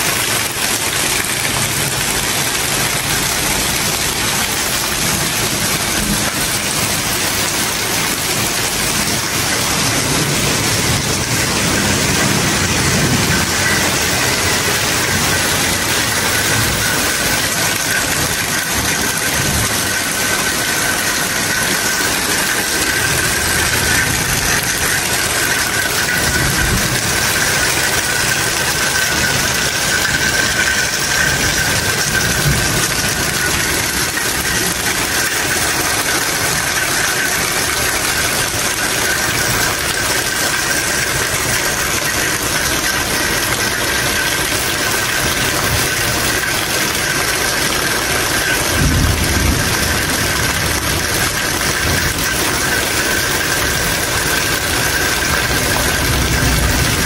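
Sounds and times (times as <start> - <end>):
heavy rain falling: 0.0 - 57.0
water streaming off roof edge: 0.0 - 57.0.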